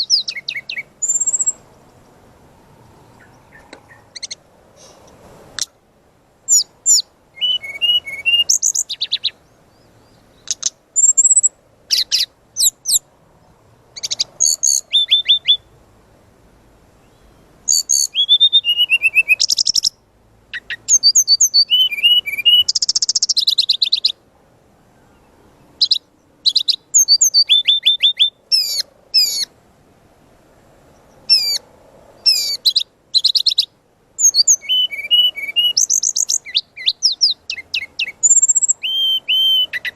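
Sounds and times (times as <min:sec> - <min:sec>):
bird singing chirps and trills: 0:00.0 - 0:02.2, 0:02.8 - 0:04.5, 0:06.5 - 0:15.8, 0:17.0 - 0:24.2, 0:24.9 - 0:29.5, 0:30.9 - 0:31.6, 0:32.2 - 0:39.9.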